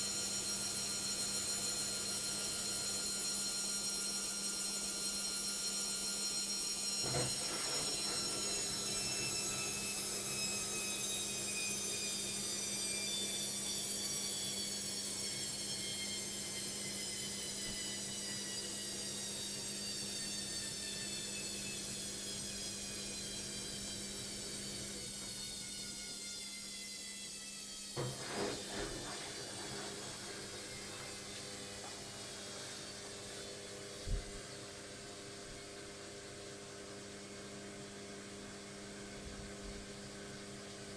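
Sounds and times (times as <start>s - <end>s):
washing machine spin whine: 0.0s - 40.9s.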